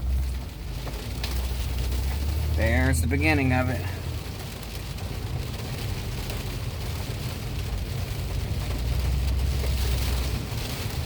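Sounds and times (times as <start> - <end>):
engine and road rumble: 0.0 - 11.0
rain on a car: 0.0 - 11.0.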